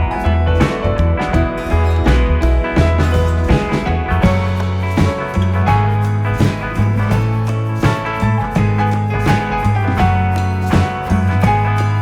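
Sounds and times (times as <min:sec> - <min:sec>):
upbeat guitar music with beat: 0:00.0 - 0:12.0.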